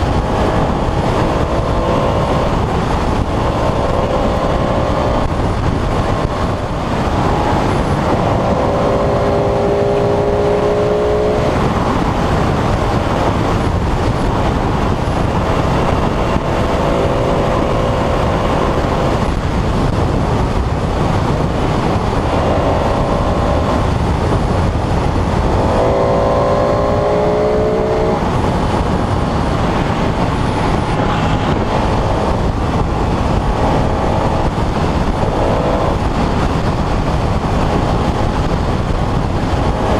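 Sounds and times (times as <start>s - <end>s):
wind rushing: 0.0s - 39.9s.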